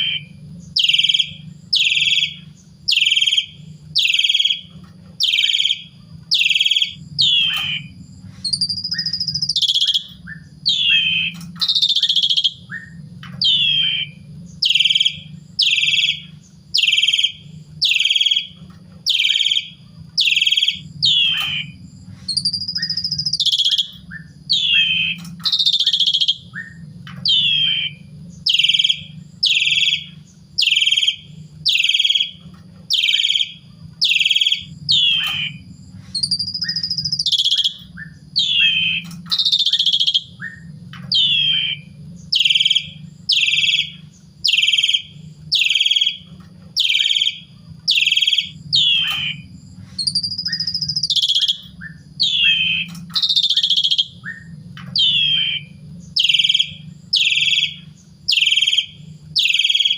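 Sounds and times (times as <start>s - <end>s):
starling whistling calls: 0.0s - 59.9s.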